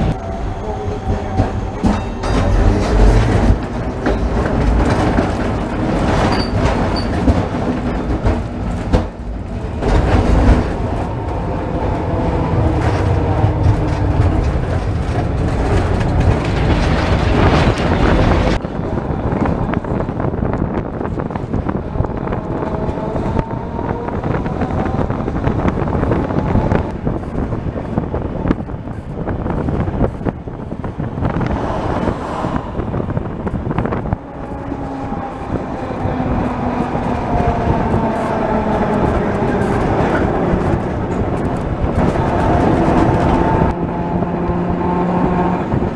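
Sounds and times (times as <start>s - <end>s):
tram running on rails: 0.0s - 45.9s.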